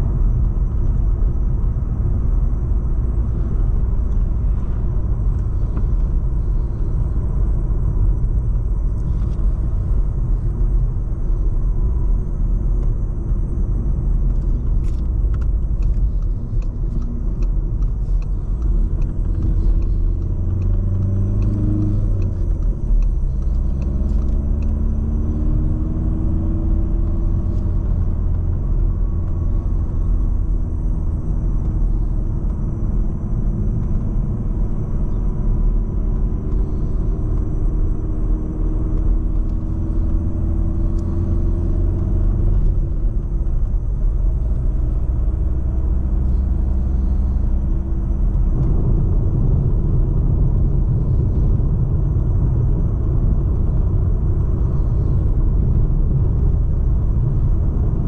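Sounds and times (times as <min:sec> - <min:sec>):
diesel car engine droning: 0:00.0 - 0:58.0
road rumble: 0:00.0 - 0:58.0.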